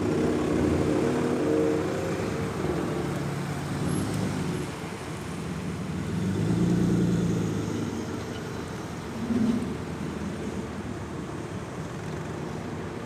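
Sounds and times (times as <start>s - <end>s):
cars rolling past at low revs: 0.0s - 12.7s.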